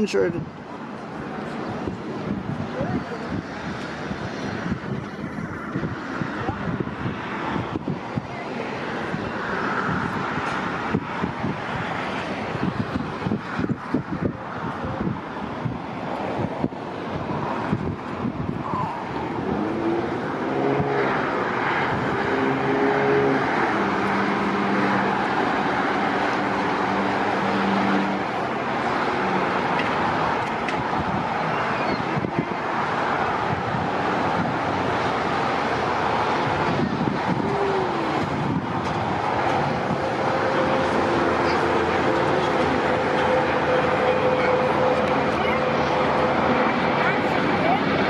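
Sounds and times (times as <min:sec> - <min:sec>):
jet airliner roar: 0:00.0 - 0:48.0
road traffic: 0:00.0 - 0:48.0.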